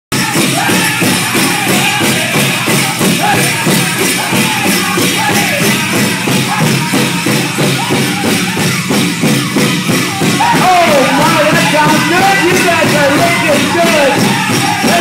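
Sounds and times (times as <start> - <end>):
drum group singing: 0.1 - 15.0
jingling leg bells: 0.1 - 15.0
steady drumbeat: 0.1 - 15.0.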